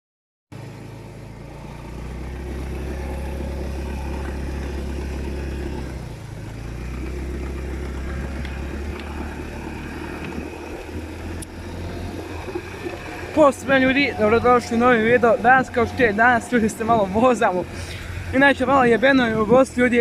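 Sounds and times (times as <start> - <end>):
motorcycle engine running: 0.5 - 20.0.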